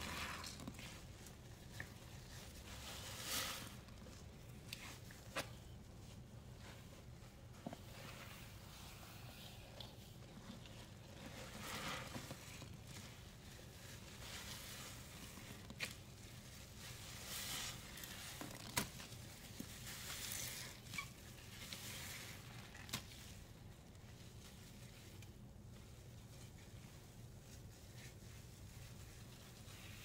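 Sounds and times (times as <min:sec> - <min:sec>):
hands squishing powder paste: 0:00.0 - 0:30.0.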